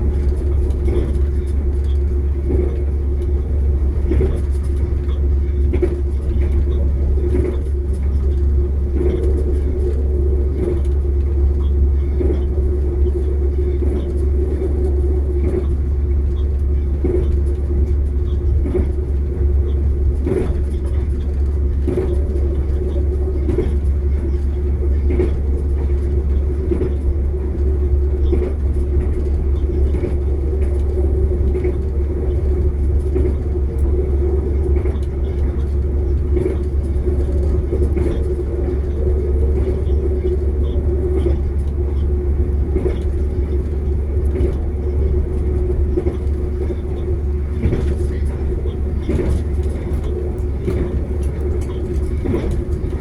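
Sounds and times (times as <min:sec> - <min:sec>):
train rumble with hum: 0:00.0 - 0:53.0.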